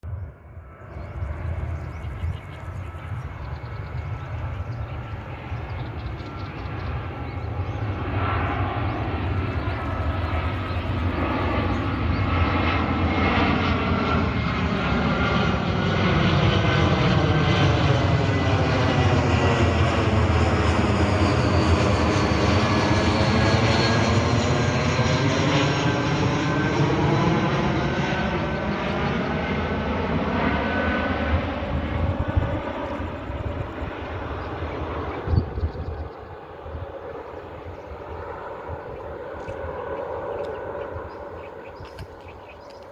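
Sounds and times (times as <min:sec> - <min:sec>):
jet engines rumbling overhead: 0:00.0 - 0:42.9.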